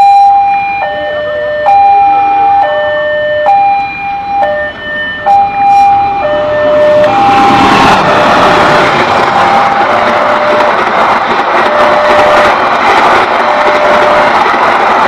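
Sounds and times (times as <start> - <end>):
level crossing two-tone alarm: 0.0 - 14.4
diesel train passing: 0.0 - 15.0.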